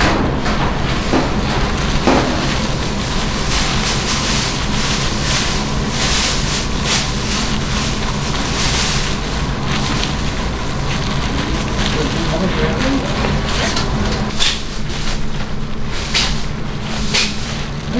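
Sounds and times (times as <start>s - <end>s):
shop background hum and hiss: 0.0s - 17.9s
plastic gloves crinkling: 0.1s - 17.9s.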